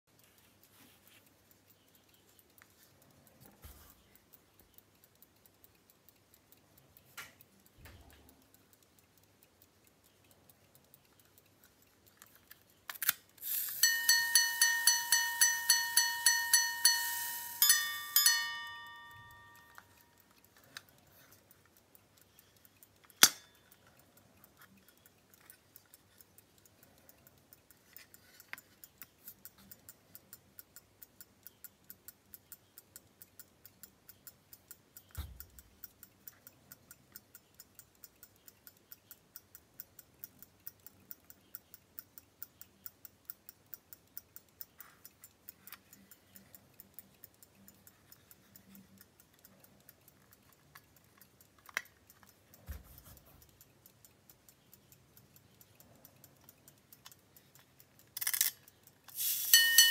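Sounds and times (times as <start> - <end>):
pocket watch ticking: 0.1 - 59.9.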